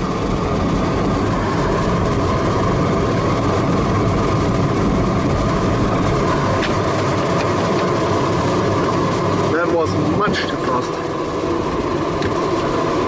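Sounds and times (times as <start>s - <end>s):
loud rush of airflow: 0.0s - 13.0s.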